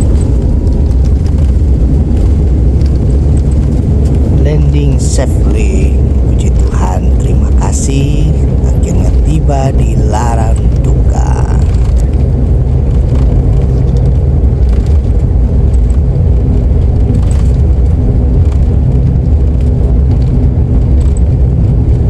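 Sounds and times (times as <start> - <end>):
faint hum: 0.0 - 22.0
turboprop engines rumbling: 0.0 - 22.0.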